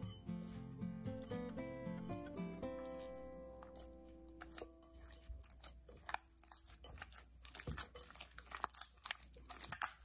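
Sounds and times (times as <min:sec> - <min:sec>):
dough squelching under kneading hands: 0:00.0 - 0:10.0.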